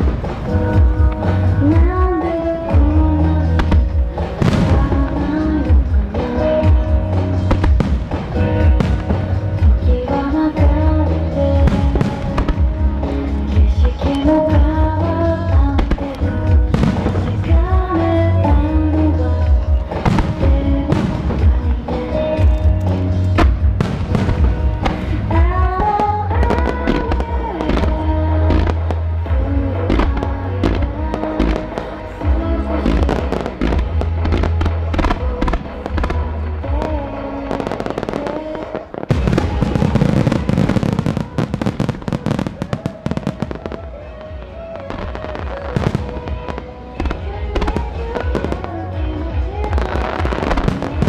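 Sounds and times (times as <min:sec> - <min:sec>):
fireworks bursting: 0:00.0 - 0:51.0
fireworks crackling: 0:00.0 - 0:51.0
loud music with deep bass: 0:00.0 - 0:51.0.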